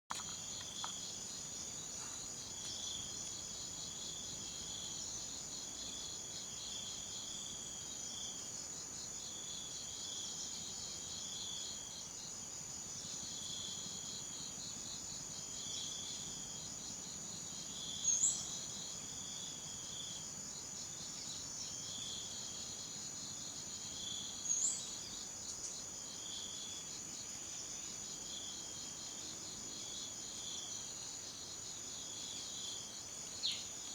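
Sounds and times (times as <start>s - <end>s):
insects droning: 0.1s - 33.9s.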